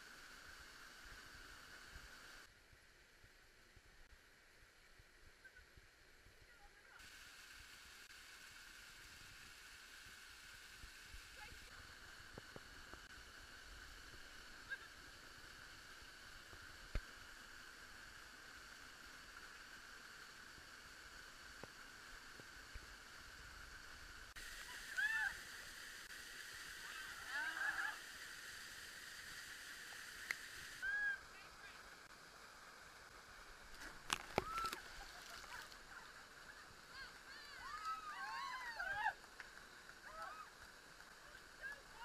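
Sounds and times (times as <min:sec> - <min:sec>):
muffled rushing water: 0:00.0 - 0:42.0.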